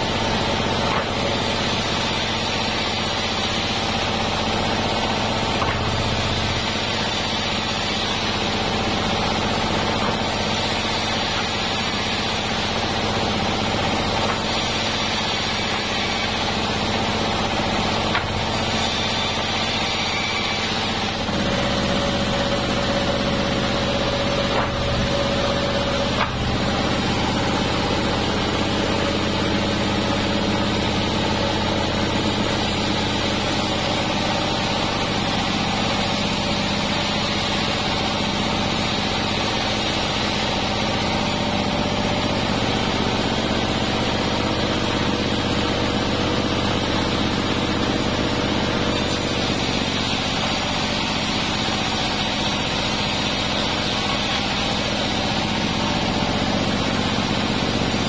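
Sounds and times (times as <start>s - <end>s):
band saw running: 0.0s - 58.0s.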